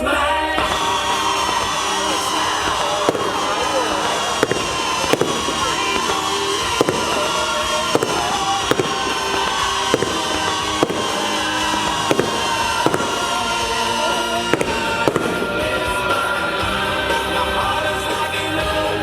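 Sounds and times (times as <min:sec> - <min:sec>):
fireworks bangs: 0:00.0 - 0:19.0
music playing: 0:00.0 - 0:19.0.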